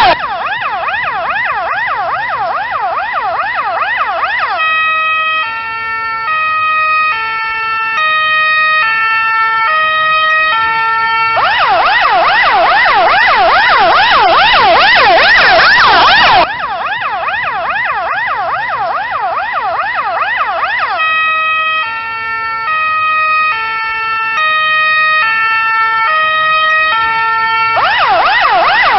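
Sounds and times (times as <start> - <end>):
ambulance siren: 0.0 - 28.9.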